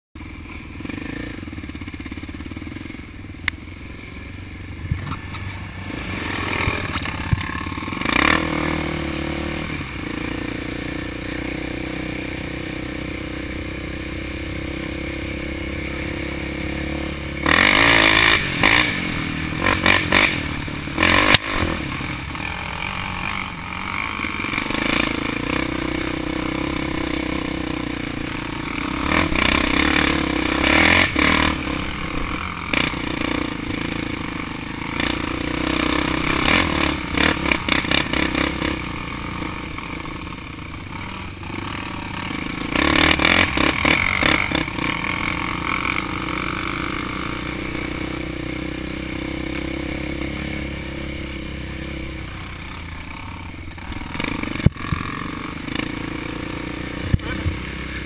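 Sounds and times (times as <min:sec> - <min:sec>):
atv engine accelerating: 0:00.2 - 0:58.0.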